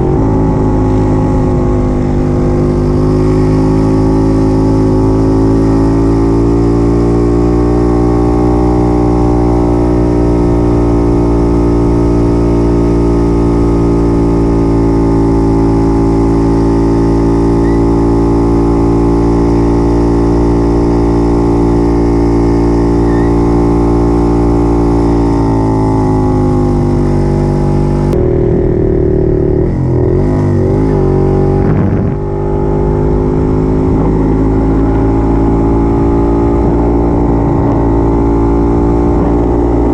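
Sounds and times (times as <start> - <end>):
two-stroke motorcycle engine: 0.0 - 39.9.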